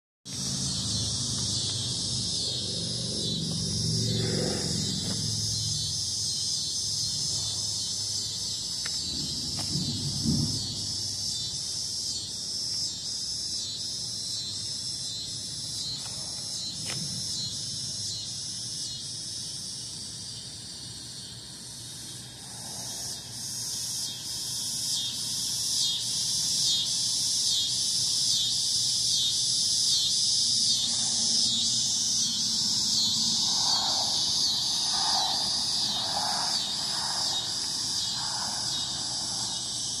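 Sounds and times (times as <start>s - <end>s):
cicadas buzzing: 0.3s - 40.0s.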